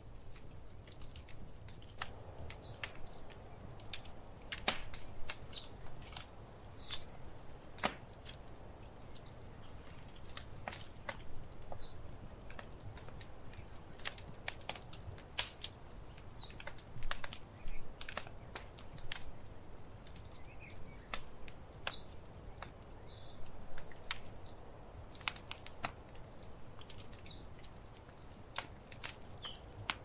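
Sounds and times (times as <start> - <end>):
low fire rumble: 0.0 - 30.0
wood fire crackling: 0.0 - 30.0.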